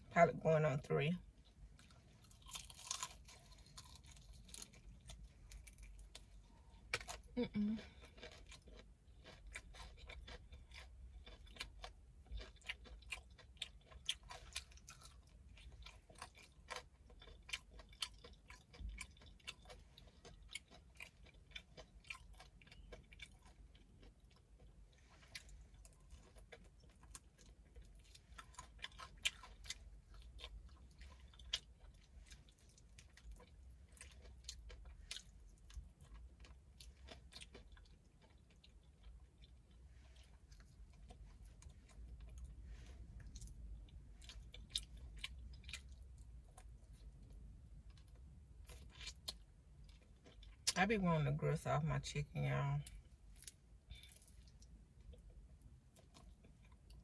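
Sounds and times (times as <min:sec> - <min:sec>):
crunchy chewing: 0:01.4 - 0:50.8, 0:52.8 - 0:57.0.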